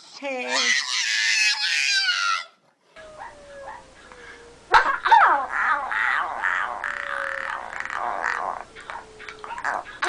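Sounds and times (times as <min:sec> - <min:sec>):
dog whining: 0:00.3 - 0:10.0.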